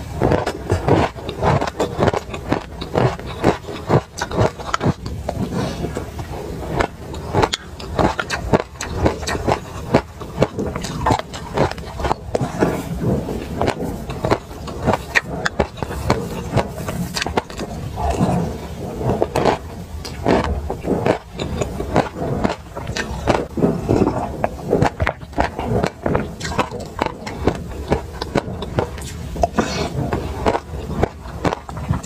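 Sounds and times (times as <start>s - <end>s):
chewing and crunching seeds: 0.0s - 32.0s.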